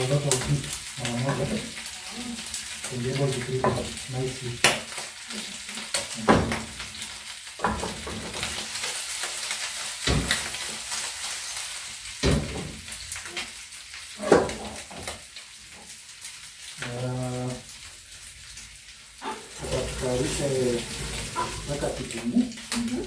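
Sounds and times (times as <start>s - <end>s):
meat sizzling in a wok: 0.0s - 23.0s.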